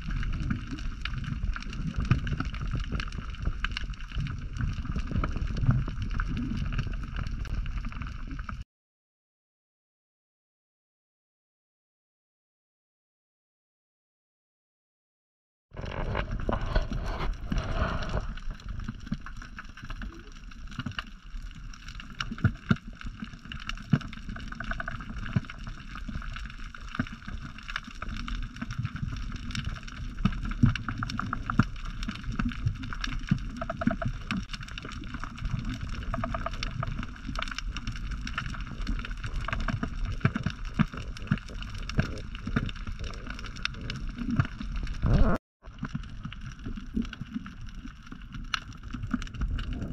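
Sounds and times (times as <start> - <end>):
underwater clicks and crackles: 0.0 - 8.6, 15.8 - 49.9
underwater rumble of moving water: 0.0 - 8.6, 15.7 - 49.9.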